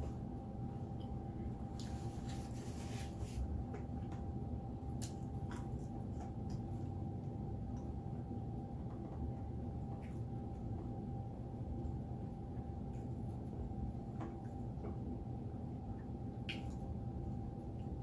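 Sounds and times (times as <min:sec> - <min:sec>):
faint constant tone: 0:00.0 - 0:18.0
low background hum: 0:00.0 - 0:18.0.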